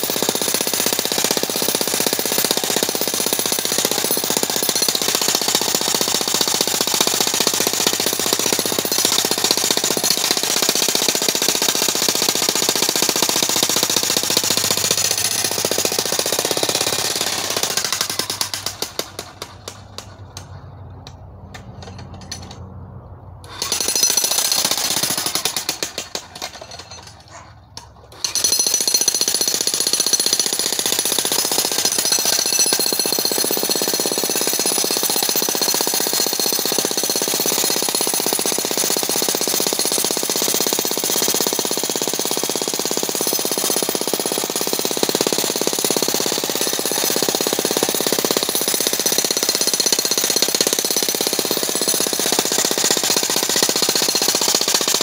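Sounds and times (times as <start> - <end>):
jackhammer pounding rock: 0.0 - 22.6, 23.4 - 55.0.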